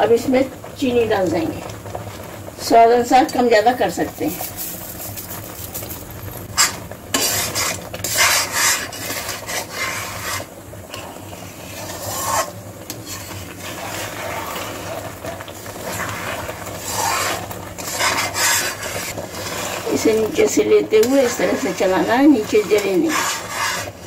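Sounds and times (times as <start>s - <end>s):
metal spatula scraping pan: 4.1s - 24.0s.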